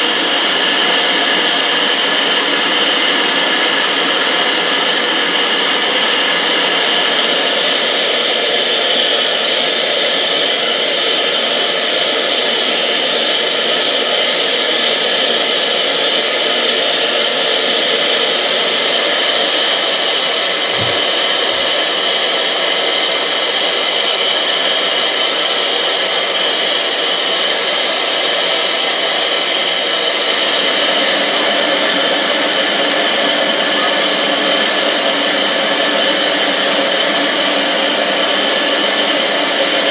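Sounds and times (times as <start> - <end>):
steam locomotive hissing: 0.0 - 39.9.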